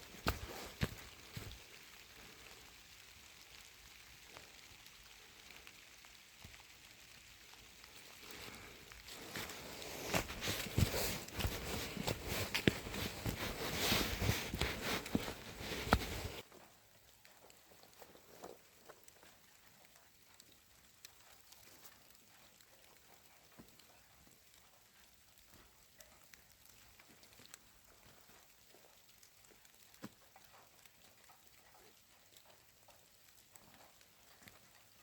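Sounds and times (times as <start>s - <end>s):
soft ticks and crackles: 0.0s - 35.0s.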